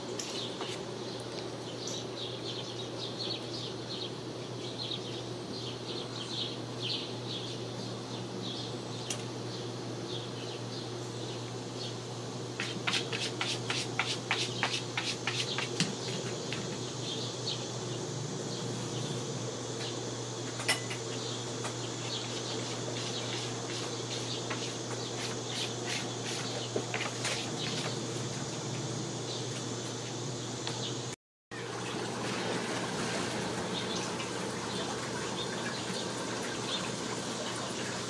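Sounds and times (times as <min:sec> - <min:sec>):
steady low hum: 0:00.0 - 0:31.2
constant high hiss: 0:00.0 - 0:38.0.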